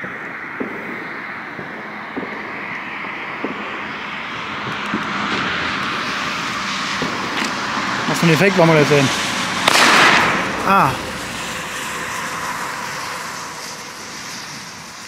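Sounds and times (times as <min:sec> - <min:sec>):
car approaching: 0:00.0 - 0:15.0
distant fireworks popping: 0:00.0 - 0:15.0.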